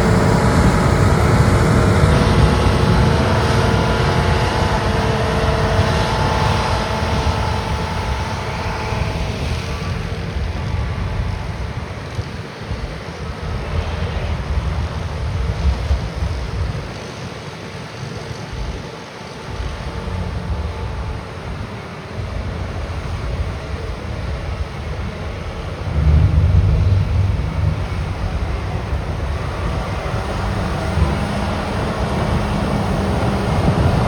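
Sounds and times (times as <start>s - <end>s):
diesel engines rumbling: 0.0s - 17.3s, 18.0s - 34.0s
wind buffeting microphone: 0.0s - 34.0s.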